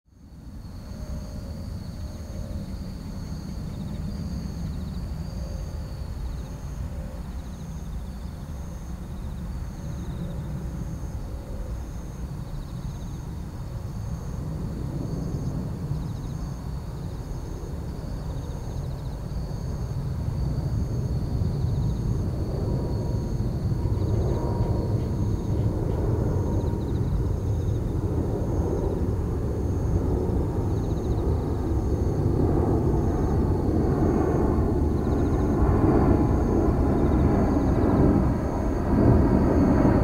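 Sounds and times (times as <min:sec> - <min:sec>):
airliner engines rumbling: 0:00.2 - 0:40.0.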